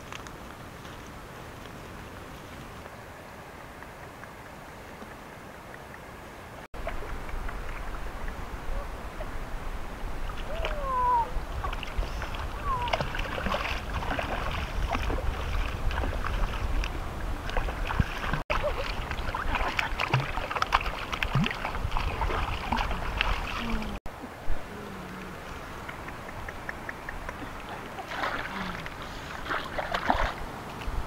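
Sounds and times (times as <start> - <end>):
water splashing and sloshing: 3.6 - 31.0.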